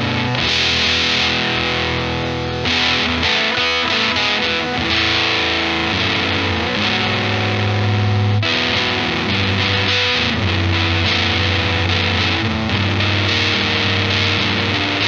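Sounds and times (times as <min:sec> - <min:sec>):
fuzzed electric guitar chords: 0:00.0 - 0:15.0.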